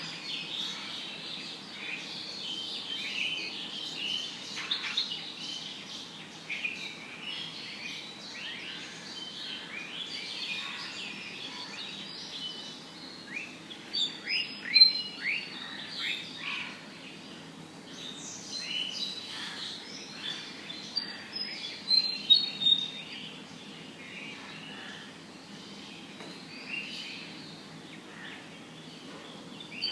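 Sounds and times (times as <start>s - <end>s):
birds chirping: 0.0s - 29.9s
faint background hiss: 0.0s - 29.9s.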